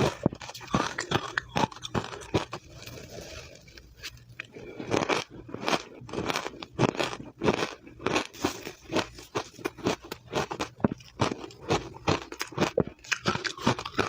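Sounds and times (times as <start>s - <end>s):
ice being chewed crunching: 0.0s - 14.0s.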